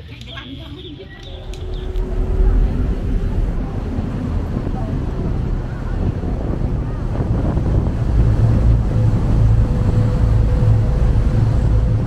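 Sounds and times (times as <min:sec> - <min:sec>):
boat engine rumbling: 0:00.0 - 0:12.0
wind noise on microphone: 0:00.0 - 0:12.0
water rushing: 0:00.9 - 0:12.0.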